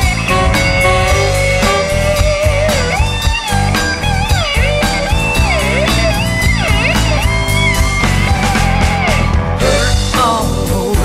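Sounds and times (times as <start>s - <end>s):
electric guitar solo: 0.0s - 9.6s
blues band music: 0.0s - 11.0s.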